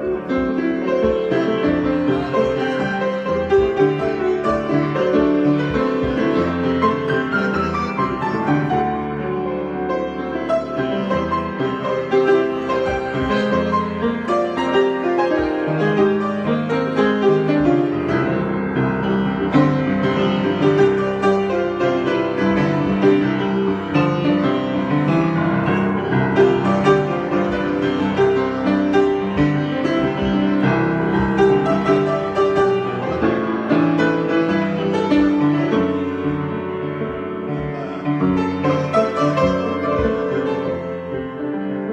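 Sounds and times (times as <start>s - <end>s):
solo piano: 0.0s - 41.9s.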